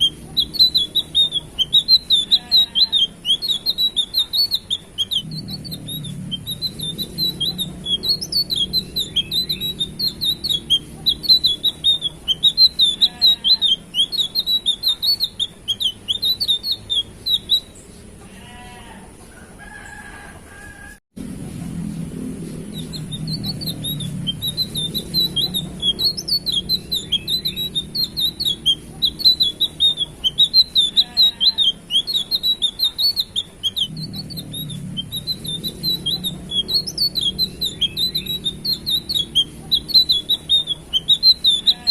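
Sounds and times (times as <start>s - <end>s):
soft low bird calls: 0.0s - 18.1s, 22.5s - 41.9s
steady low hum: 0.0s - 18.2s, 21.2s - 41.9s
small bird chirping: 0.0s - 18.8s, 22.4s - 41.9s.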